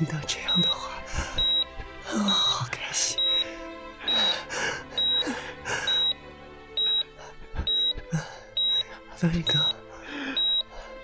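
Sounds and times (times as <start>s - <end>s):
soft background music: 0.0s - 11.0s
heart monitor beeping: 0.4s - 6.2s, 6.8s - 11.0s.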